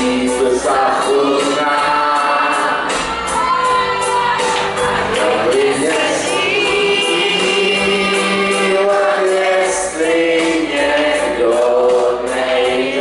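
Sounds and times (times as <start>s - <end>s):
man singing into microphone: 0.0s - 3.0s, 5.2s - 13.0s
instrumental music with beat: 0.0s - 13.0s
women's backing vocals: 0.0s - 13.0s.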